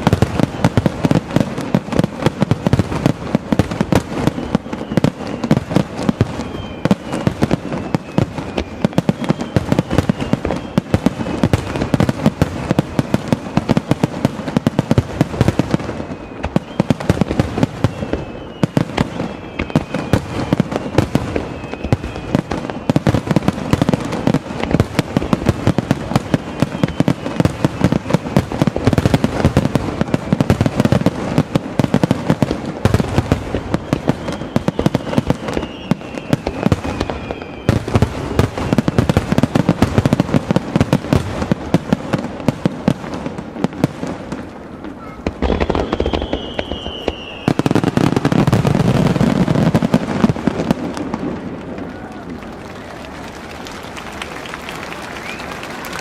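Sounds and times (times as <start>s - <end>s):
falling firework whistles: 0.0s - 56.0s
fireworks bangs and crackling: 0.0s - 56.0s.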